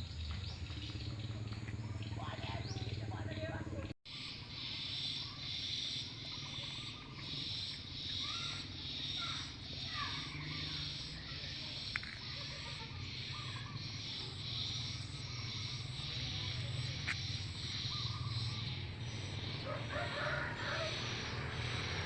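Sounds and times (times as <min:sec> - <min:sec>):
pulsing high insect chorus: 0:00.0 - 0:22.0.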